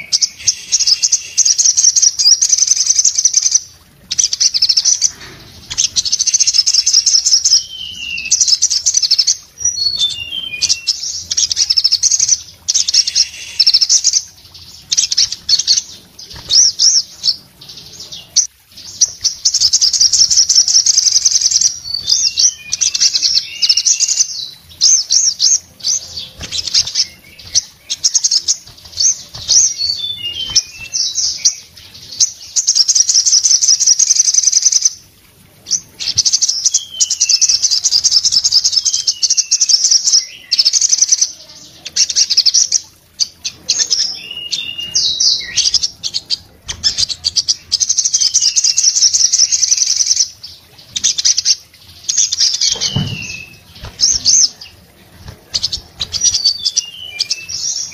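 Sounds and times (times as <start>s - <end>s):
songbird singing trills: 0.0s - 35.1s, 35.7s - 57.9s.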